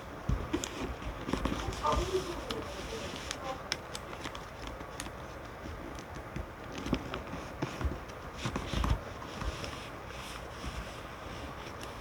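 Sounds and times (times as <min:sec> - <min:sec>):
paper being handled and creased: 0:00.4 - 0:12.0.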